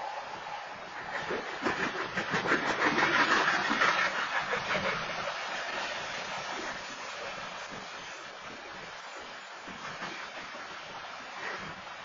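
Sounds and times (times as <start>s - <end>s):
train wheels rumbling on rail: 0.0s - 12.0s
wheels clacking: 0.8s - 11.8s.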